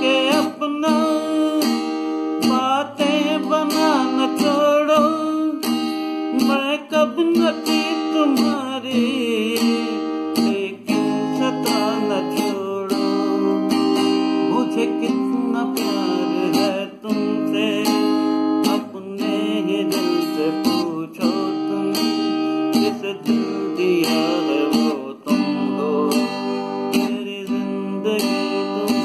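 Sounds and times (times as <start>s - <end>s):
acoustic guitar strumming chords: 0.0s - 29.0s
man singing: 0.0s - 29.0s.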